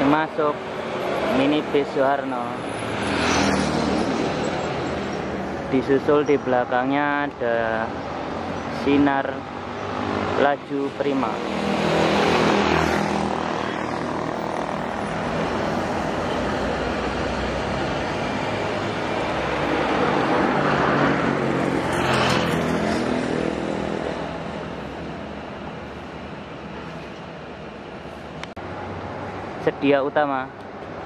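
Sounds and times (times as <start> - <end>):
motorbikes passing: 0.0 - 31.0.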